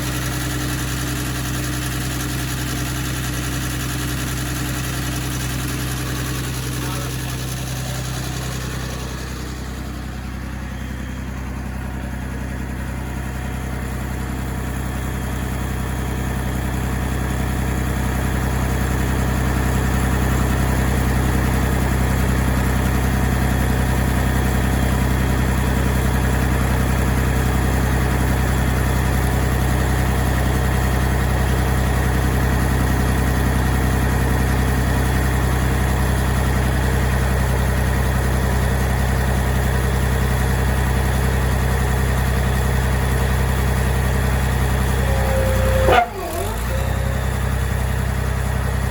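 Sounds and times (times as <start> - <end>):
concrete pump engine running: 0.0 - 48.9.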